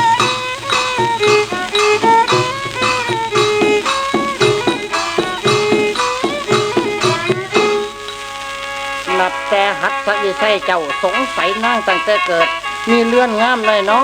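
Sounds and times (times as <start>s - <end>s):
free-reed mouth organ ensemble: 0.0s - 14.0s.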